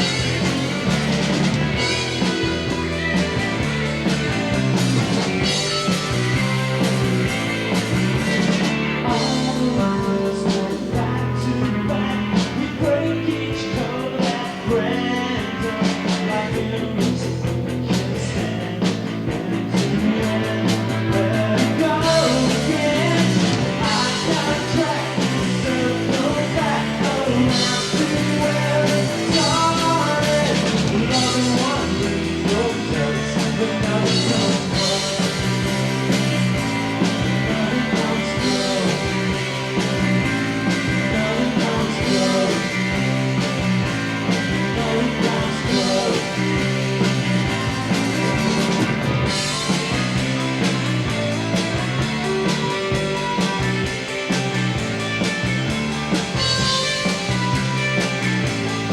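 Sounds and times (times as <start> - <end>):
bass guitar: 0.0 - 58.9
drum kit beat: 0.0 - 58.9
electric guitars: 0.0 - 58.9.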